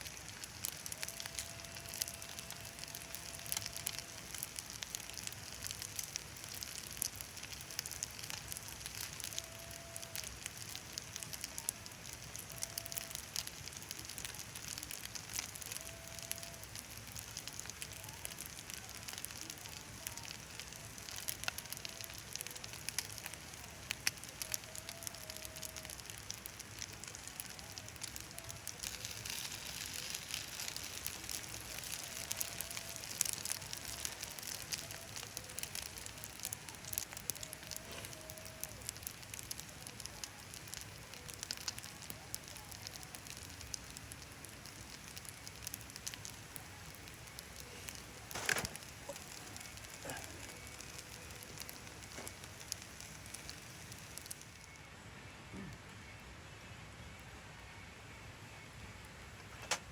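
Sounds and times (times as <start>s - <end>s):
fire hissing: 0.0s - 54.7s
fire crackling and popping: 0.0s - 59.9s.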